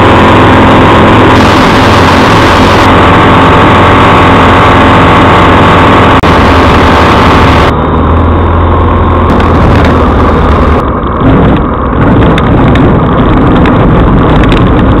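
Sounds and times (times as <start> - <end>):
airflow in cockpit: 0.0 - 15.0
light aircraft engine drone: 0.0 - 15.0.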